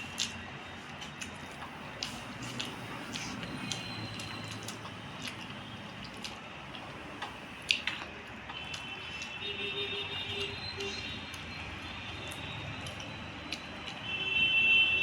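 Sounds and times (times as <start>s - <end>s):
squishing of rice and curry: 0.0s - 15.0s
mouth clicks while chewing: 0.1s - 9.4s, 10.3s - 14.1s.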